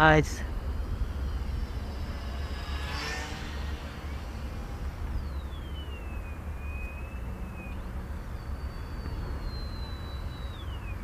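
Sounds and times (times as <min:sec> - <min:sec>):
wind rumble on microphone: 0:00.0 - 0:11.0
model plane motor whining: 0:00.4 - 0:11.0.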